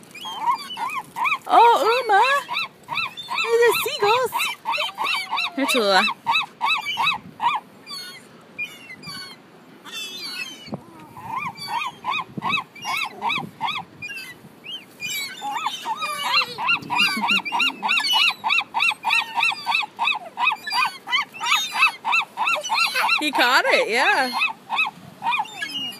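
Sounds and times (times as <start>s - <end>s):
gulls calling: 0.0s - 25.9s.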